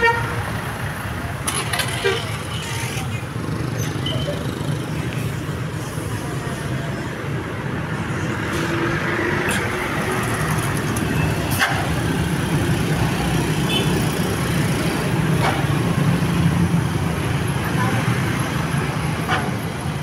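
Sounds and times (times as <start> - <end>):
traffic noise: 0.0 - 20.0.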